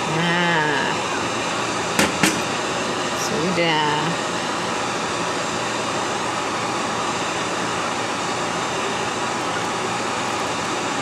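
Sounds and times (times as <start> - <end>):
fan running: 0.0 - 11.0.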